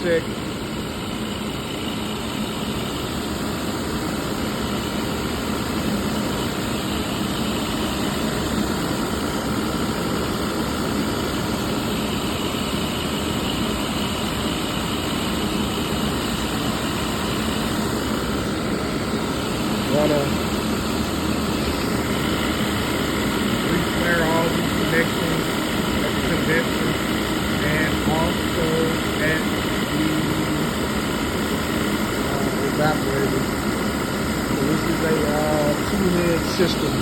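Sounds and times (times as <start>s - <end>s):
machine drone: 0.0s - 37.0s.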